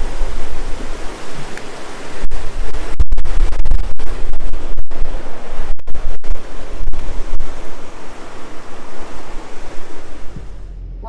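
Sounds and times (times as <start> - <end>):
river rushing: 0.0 - 10.7
wind buffeting microphone: 0.0 - 11.0.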